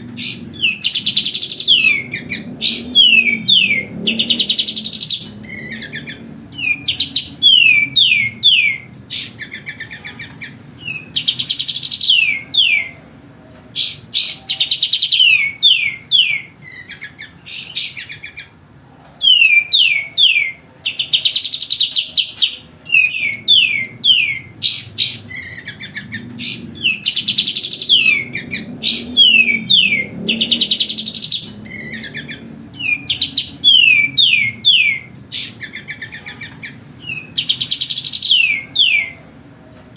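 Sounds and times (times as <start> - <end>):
bird singing whistled notes: 0.2 - 13.0, 13.8 - 18.5, 19.2 - 39.2.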